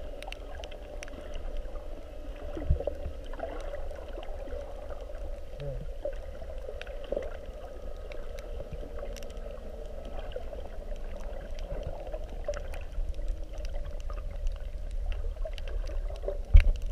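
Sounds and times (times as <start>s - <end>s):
muffled underwater water rumble: 0.0s - 16.9s
faint clicks: 0.1s - 16.9s.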